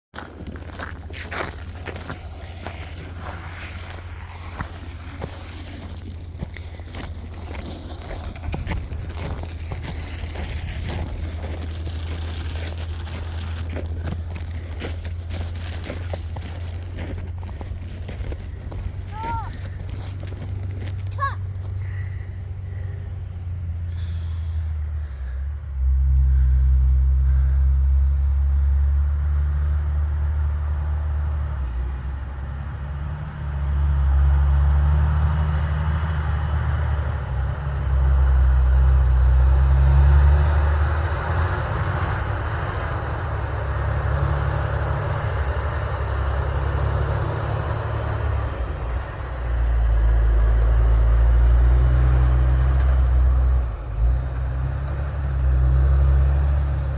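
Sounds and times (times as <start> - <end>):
diesel truck engine rumble: 0.0 - 56.9
road noise: 0.0 - 56.9.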